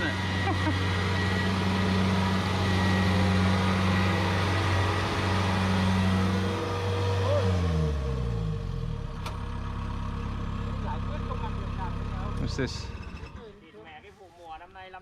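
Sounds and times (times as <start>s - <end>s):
harvester engine running: 0.0s - 13.5s.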